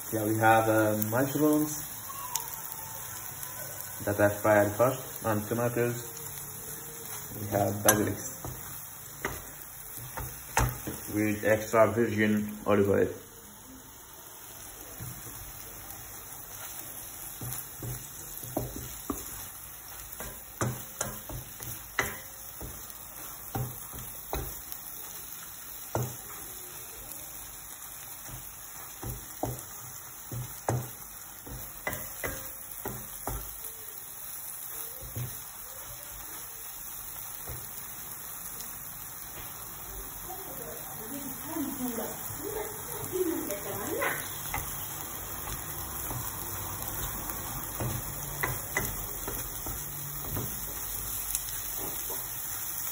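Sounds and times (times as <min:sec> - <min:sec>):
food sizzling in a frying pan: 0:00.0 - 0:52.9.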